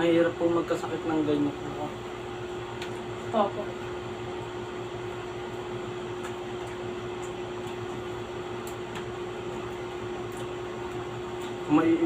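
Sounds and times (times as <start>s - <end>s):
fan motor hum: 0.0s - 12.0s.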